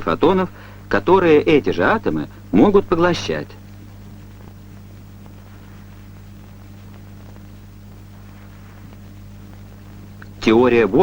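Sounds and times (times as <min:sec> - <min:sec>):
film soundtrack hiss: 0:00.0 - 0:11.0
low electrical hum: 0:00.0 - 0:11.0.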